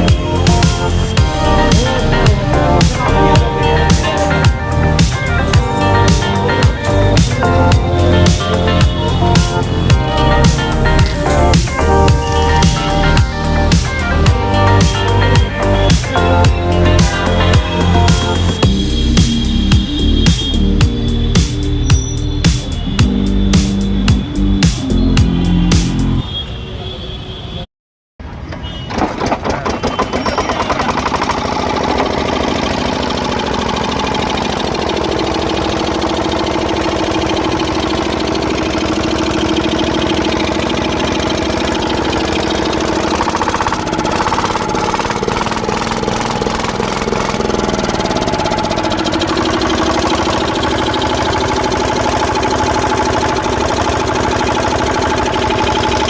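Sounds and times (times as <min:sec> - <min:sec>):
diesel engine running: 0:00.0 - 0:26.2, 0:28.9 - 0:56.0.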